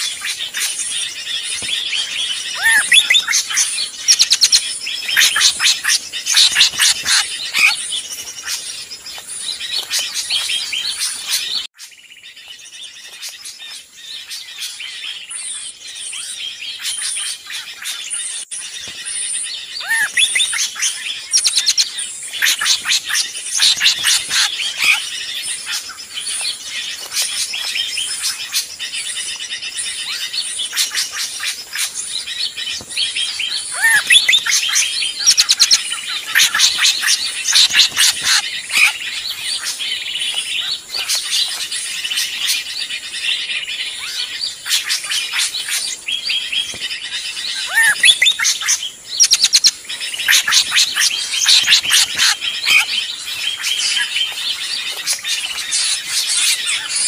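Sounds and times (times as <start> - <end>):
songbirds chirping chorus: 0.0 - 57.0.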